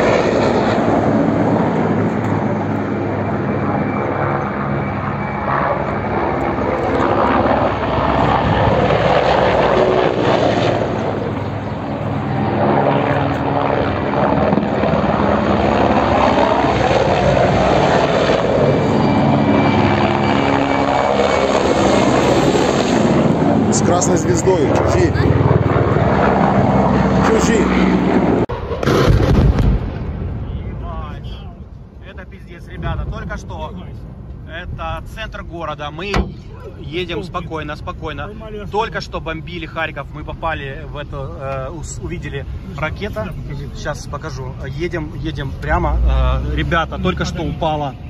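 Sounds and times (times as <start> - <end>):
helicopter flying overhead: 0.0 - 48.0.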